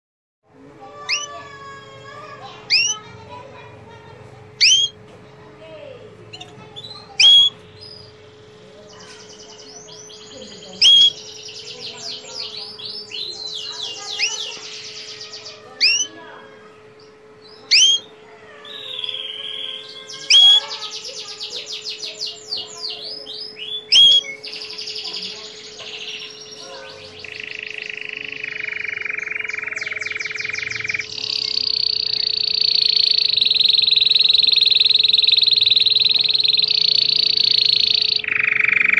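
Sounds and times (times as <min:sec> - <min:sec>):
faint steady hum: 0:00.5 - 0:38.9
canary singing: 0:00.8 - 0:05.1, 0:05.7 - 0:38.9.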